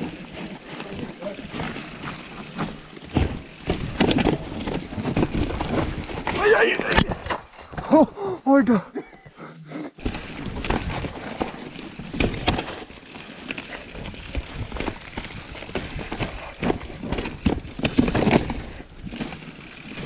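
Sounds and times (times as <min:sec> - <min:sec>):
bike knocking and rattling: 0:00.0 - 0:08.1, 0:10.0 - 0:20.0.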